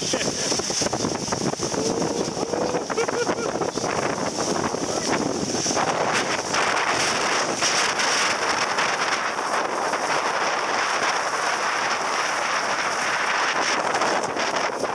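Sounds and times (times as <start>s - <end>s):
waterfall roaring: 0.0s - 14.9s
wind buffeting microphone: 0.0s - 14.9s.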